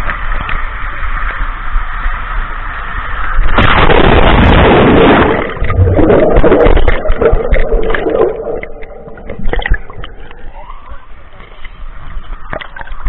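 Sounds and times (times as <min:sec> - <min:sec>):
muffled underwater rushing and bubbling: 0:00.0 - 0:13.0
water splashes: 0:00.0 - 0:13.0.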